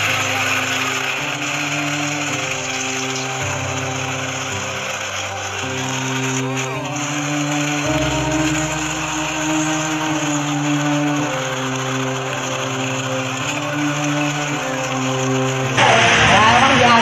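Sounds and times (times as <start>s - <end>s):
floodwater rushing with debris: 0.0s - 17.0s
held background music chords: 0.0s - 17.0s.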